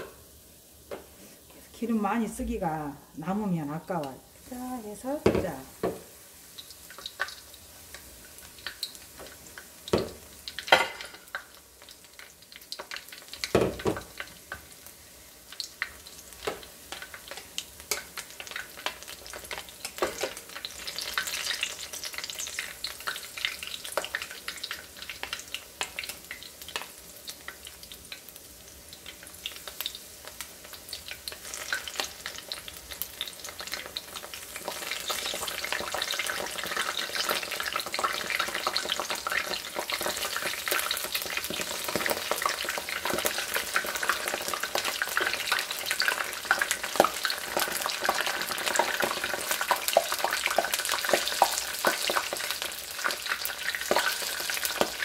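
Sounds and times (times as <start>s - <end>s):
battered flowers frying in oil: 0.0s - 55.0s.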